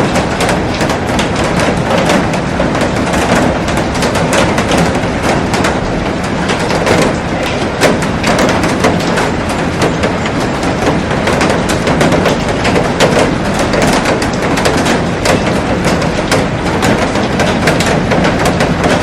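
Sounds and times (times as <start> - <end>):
heavy rain on glass roof: 0.0 - 19.0.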